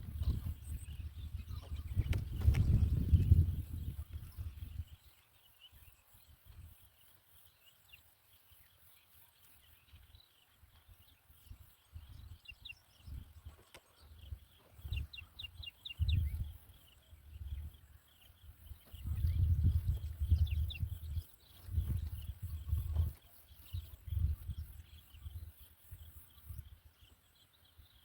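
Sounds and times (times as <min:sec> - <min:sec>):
small bird chirps: 0:00.0 - 0:28.0.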